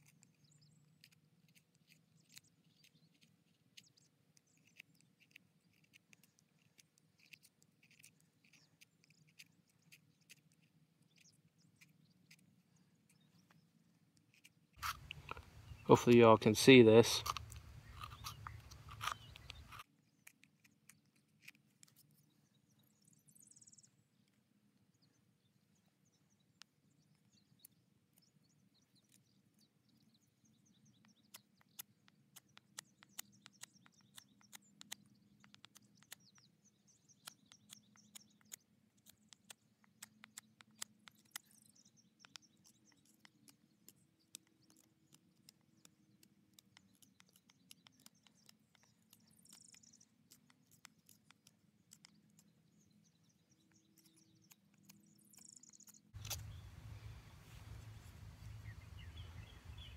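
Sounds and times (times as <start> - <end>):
knife shaving wood: 0.0 - 22.3, 30.9 - 52.5, 53.6 - 59.7.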